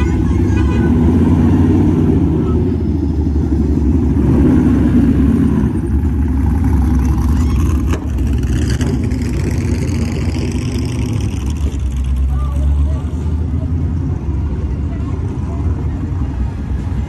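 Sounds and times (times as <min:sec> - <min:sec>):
car engines rumbling past: 0:00.0 - 0:17.0.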